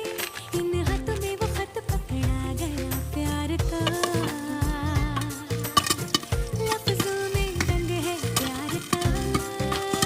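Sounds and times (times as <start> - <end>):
pop music with steady beat: 0.0 - 10.0.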